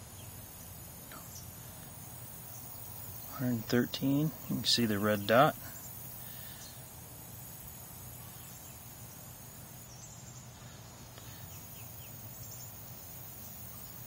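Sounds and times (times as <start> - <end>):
insects chirping: 0.0 - 14.0
low steady hum: 0.0 - 14.0.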